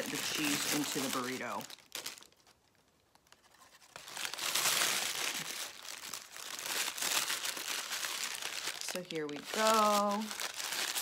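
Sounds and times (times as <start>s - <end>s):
paper wrapper crinkling: 0.0s - 11.0s.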